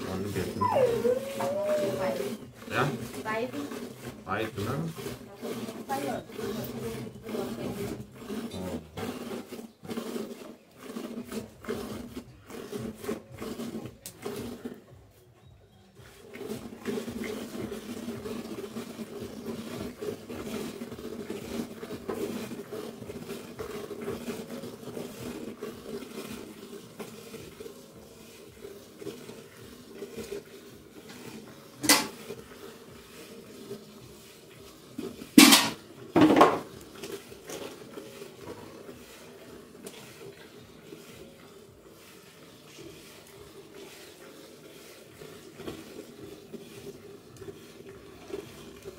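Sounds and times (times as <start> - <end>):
milk squirting into steel pail: 0.0 - 15.0, 15.9 - 48.9.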